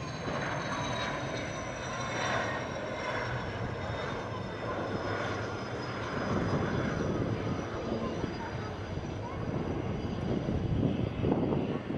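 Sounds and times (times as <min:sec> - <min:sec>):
jet engine running: 0:00.0 - 0:11.9.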